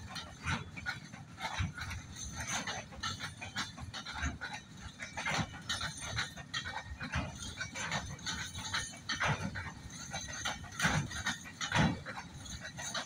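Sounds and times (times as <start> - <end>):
freight train wheels knocking: 0.0 - 13.0.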